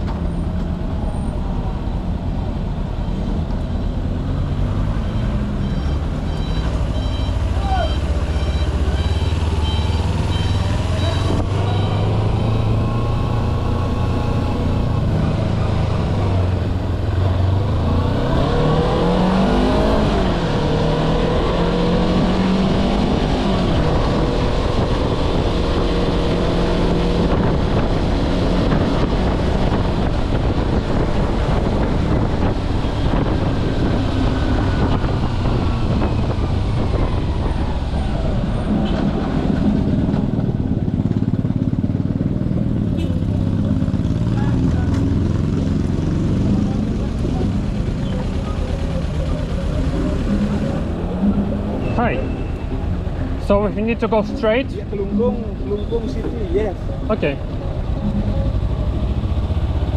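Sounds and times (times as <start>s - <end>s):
road and wind noise: 0.0s - 59.9s
motorcycle engine revving: 4.0s - 59.9s.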